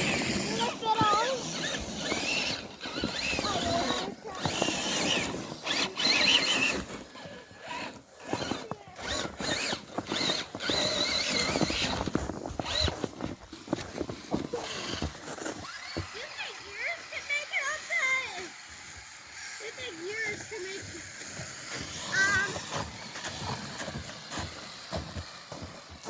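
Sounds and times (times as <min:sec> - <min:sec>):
electric motors whining: 0:00.0 - 0:25.6.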